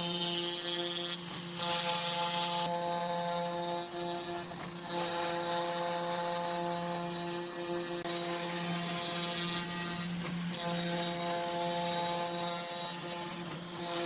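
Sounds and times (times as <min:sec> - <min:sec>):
electric power tool running: 0:00.0 - 0:14.0.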